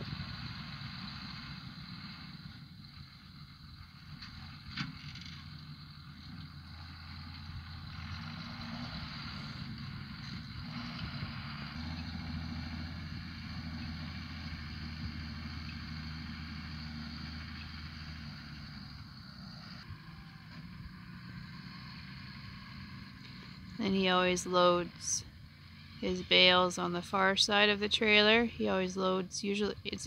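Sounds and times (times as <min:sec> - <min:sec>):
distant tractor diesel engine: 0:00.0 - 0:30.0.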